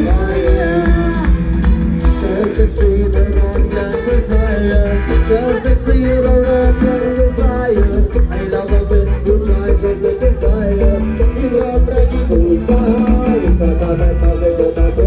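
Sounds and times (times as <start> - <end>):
loud amplified band music: 0.0 - 15.0
person singing: 0.0 - 15.0
pounding bass beat: 0.0 - 15.0.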